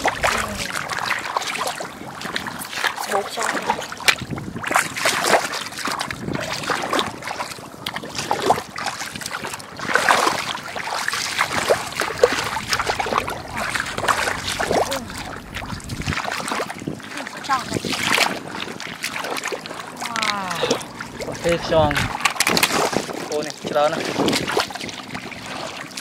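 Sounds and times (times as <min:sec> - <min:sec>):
shallow water sloshing and splashing: 0:00.0 - 0:26.0.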